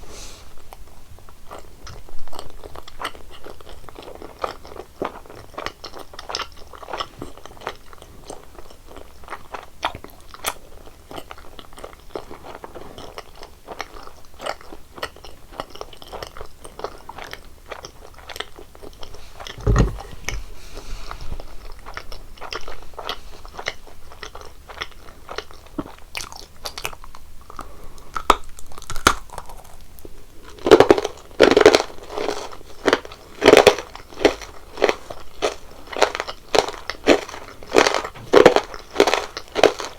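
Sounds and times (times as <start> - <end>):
chewing and crunching sweets: 0.6 - 20.5, 21.4 - 39.9.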